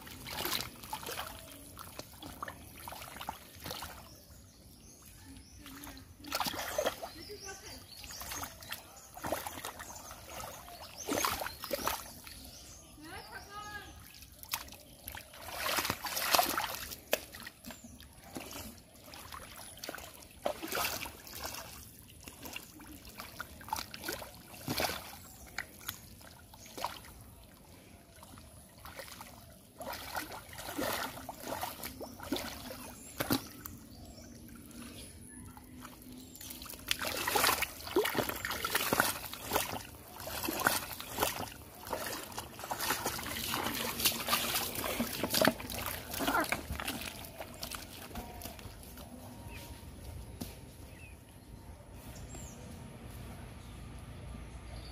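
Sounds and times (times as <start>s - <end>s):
hands splashing in pond water: 0.0s - 51.3s.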